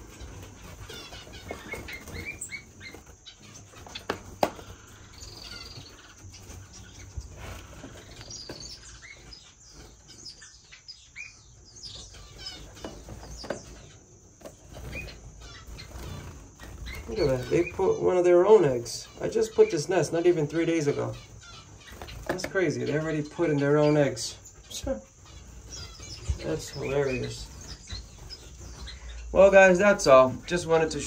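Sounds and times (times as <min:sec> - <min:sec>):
finches chirping: 0:00.0 - 0:31.0.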